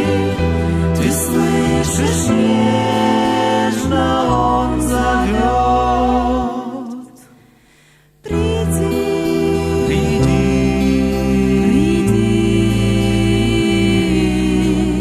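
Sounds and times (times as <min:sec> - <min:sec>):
choir singing: 0:00.0 - 0:07.3, 0:08.3 - 0:15.0.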